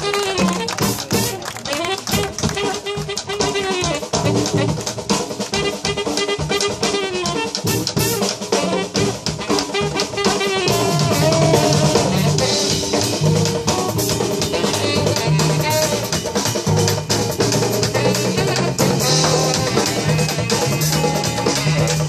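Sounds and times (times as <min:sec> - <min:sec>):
drum kit: 0:00.0 - 0:22.0
hand drums: 0:00.0 - 0:22.0
live band playing: 0:00.0 - 0:22.0.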